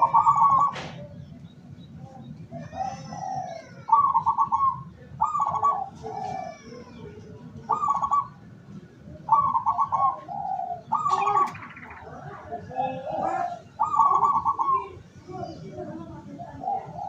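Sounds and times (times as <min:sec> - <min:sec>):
dove cooing: 0:00.0 - 0:01.2, 0:02.5 - 0:08.5, 0:09.1 - 0:17.0.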